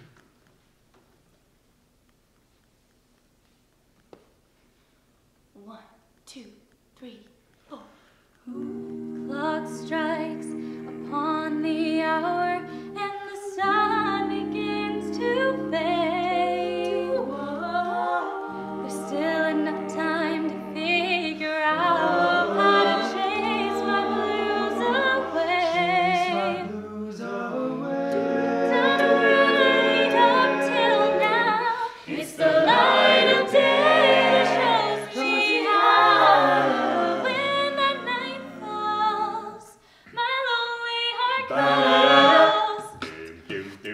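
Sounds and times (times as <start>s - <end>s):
a cappella group singing in harmony: 8.4s - 43.9s.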